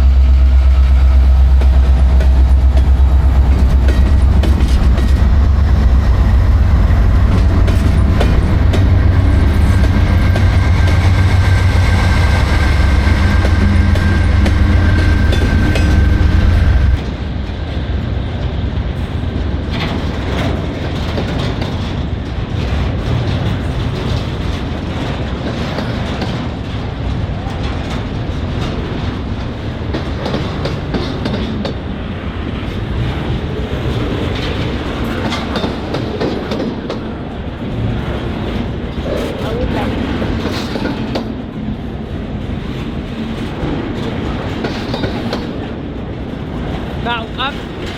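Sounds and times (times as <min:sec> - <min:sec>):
freight train rumbling: 0:00.0 - 0:47.9
wheels clacking over rail joints: 0:01.4 - 0:47.9.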